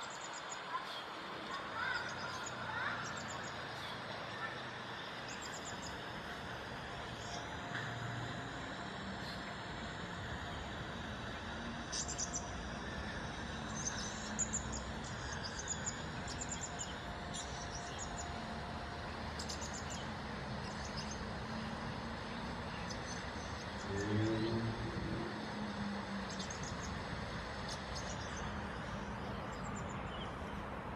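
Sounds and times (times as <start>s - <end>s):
steady background hum: 0.0s - 30.9s.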